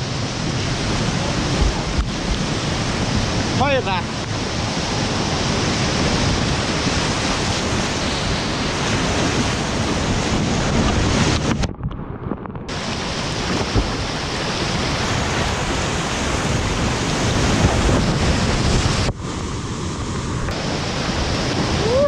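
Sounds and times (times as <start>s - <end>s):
whitewater rapids roaring: 0.0s - 11.5s, 12.7s - 22.0s.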